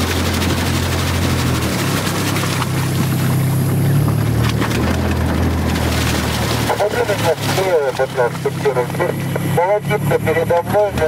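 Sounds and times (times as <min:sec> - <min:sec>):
vehicle engine running: 0:00.0 - 0:11.0
water noise: 0:00.0 - 0:11.0.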